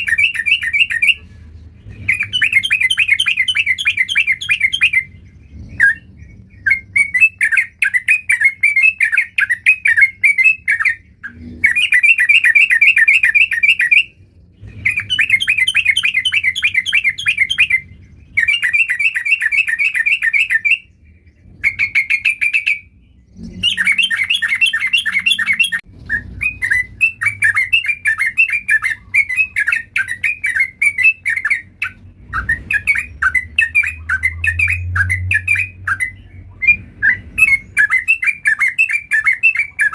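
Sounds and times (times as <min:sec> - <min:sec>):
bird singing in chattering phrases: 0:00.0 - 0:39.9.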